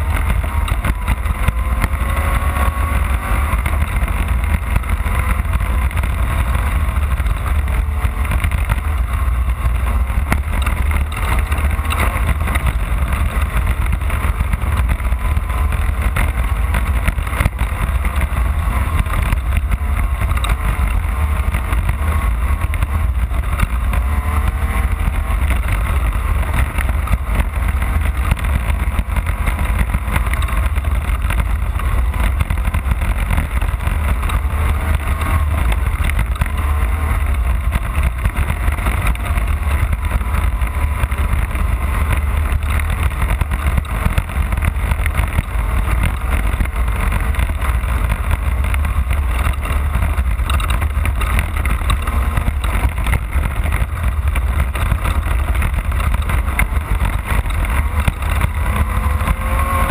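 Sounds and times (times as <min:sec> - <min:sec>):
heavy low rumble: 0:00.0 - 0:59.9
race car engine revving: 0:00.0 - 0:59.9.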